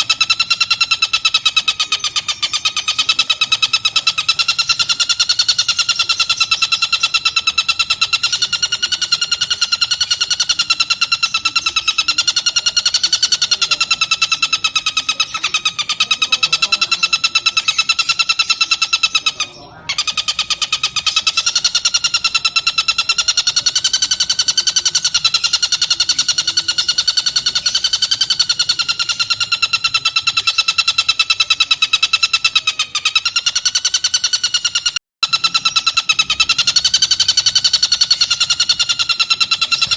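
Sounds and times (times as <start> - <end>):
kingfisher chattering trill: 0.0 - 39.9.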